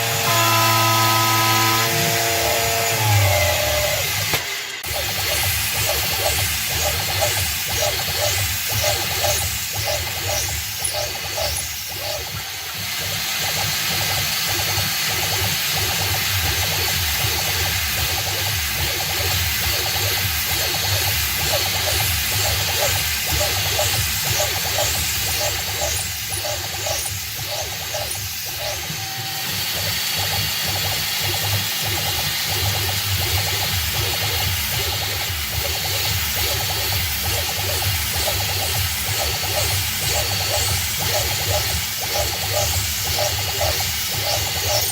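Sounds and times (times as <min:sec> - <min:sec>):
drill cutting into metal: 0:00.0 - 0:44.9
milling machine spindle running: 0:00.0 - 0:44.9
pulsing machine sound: 0:00.0 - 0:44.9
hiss of mist coolant: 0:04.6 - 0:44.9.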